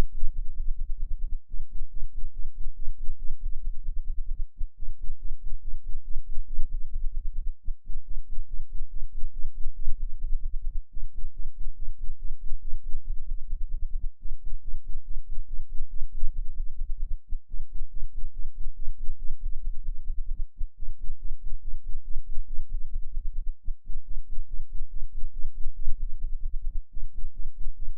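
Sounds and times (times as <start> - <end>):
low fluttering bass throb: 0.0 - 27.9.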